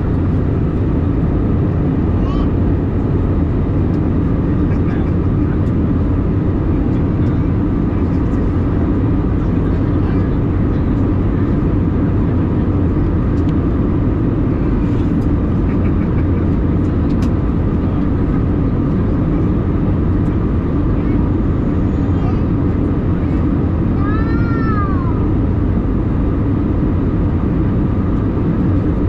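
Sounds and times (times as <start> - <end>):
aircraft cabin engine and airflow noise: 0.0 - 29.0.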